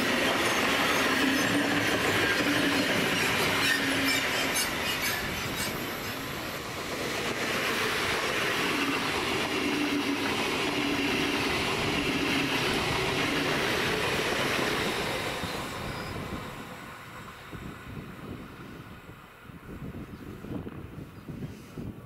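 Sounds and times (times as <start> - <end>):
train drive humming: 0.0 - 21.1
train wheels rolling on rail: 0.0 - 21.5.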